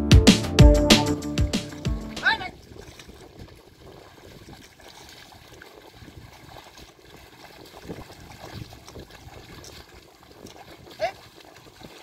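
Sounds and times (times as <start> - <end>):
muddy water sloshing and splashing: 1.5 - 12.0.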